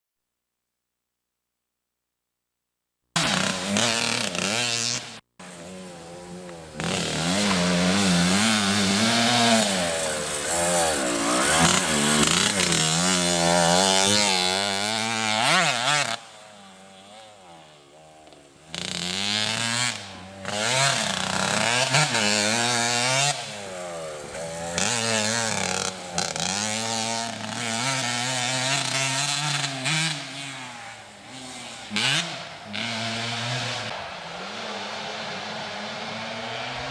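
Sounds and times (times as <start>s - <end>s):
dirt bike engines revving: 3.2s - 36.9s.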